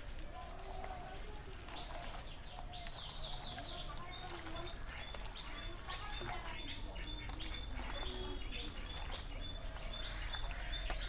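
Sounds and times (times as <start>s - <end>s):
birds chirping: 0.0s - 11.0s
hand kneading wet meat: 0.0s - 11.0s.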